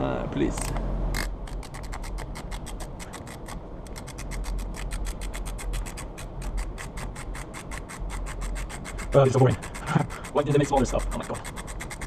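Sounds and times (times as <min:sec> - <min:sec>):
hand ratchet clicking: 0:00.6 - 0:12.0.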